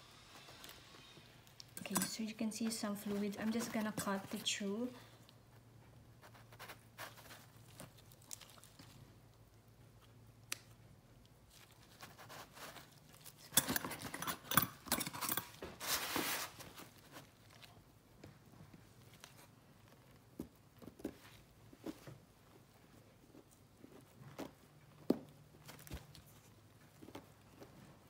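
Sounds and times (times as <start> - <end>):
gloved handling rustling: 0.2 - 28.0.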